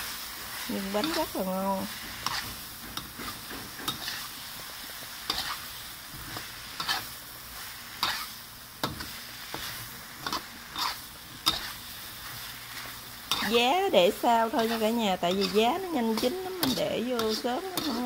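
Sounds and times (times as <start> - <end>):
food sizzling in a wok: 0.0 - 18.0
spatula scraping a wok: 0.0 - 18.0.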